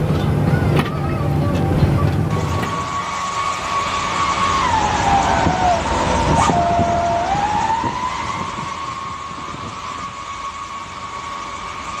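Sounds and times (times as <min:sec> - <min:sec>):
low vehicle rumble: 0:00.0 - 0:12.0
siren-like high tone: 0:02.3 - 0:12.0.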